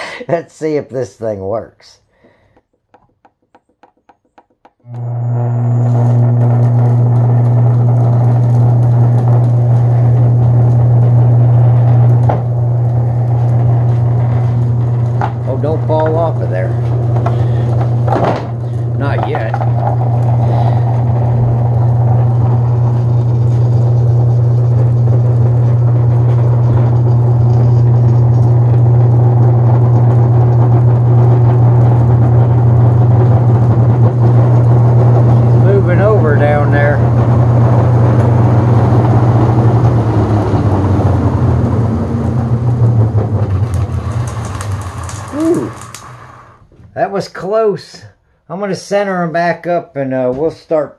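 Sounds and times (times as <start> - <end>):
treadmill motor humming: 2.6 - 46.8
sanding belts running over rollers: 3.5 - 46.6.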